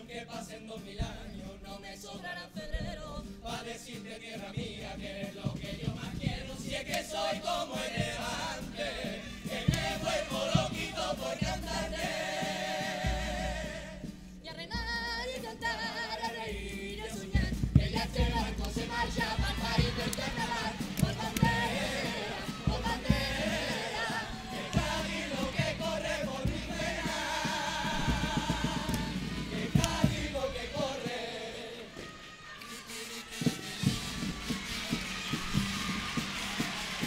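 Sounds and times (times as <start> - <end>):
choir singing: 0.0 - 37.0
guitar accompaniment: 0.3 - 31.1.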